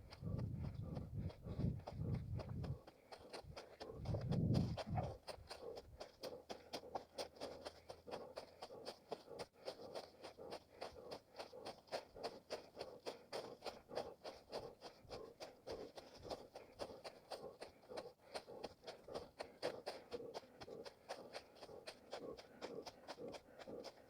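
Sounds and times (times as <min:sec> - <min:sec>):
running footsteps on forest ground: 0:00.0 - 0:24.0.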